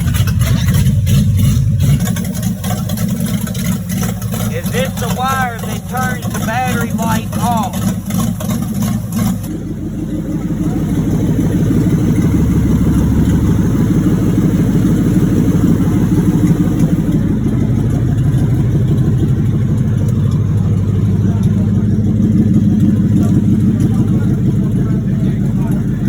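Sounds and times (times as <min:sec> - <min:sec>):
car engine accelerating: 0:00.0 - 0:26.0
engine bearing knocking: 0:00.0 - 0:26.0.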